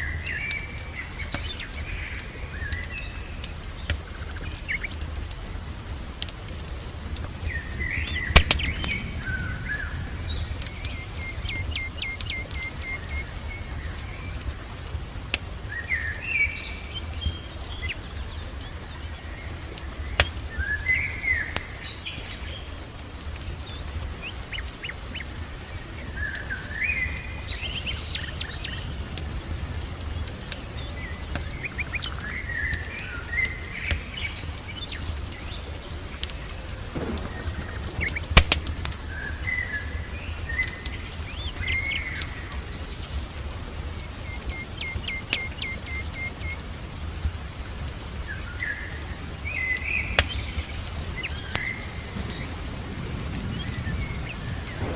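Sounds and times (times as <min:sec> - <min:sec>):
songbirds chirping: 0:00.0 - 0:54.9
wood fire crackling: 0:00.0 - 0:54.9.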